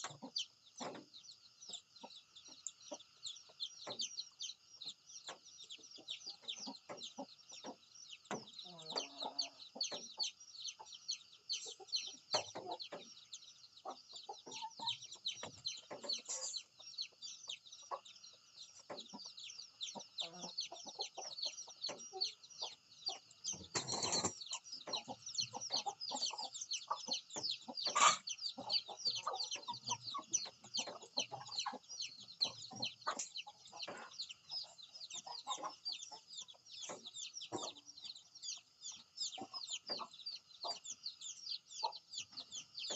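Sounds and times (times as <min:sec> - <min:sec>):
chickens clucking: 0:00.0 - 0:42.9
constant high chirping: 0:00.0 - 0:42.9.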